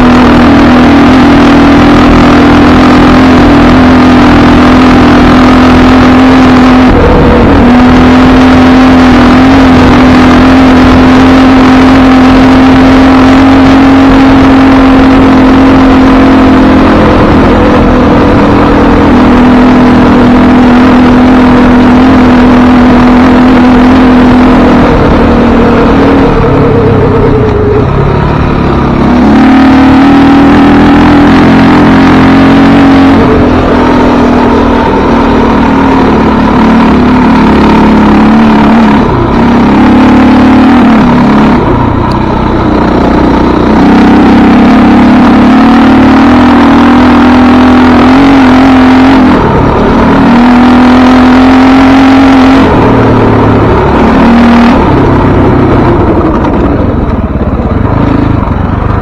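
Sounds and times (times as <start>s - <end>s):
off-road vehicle engine: 0.0s - 59.0s.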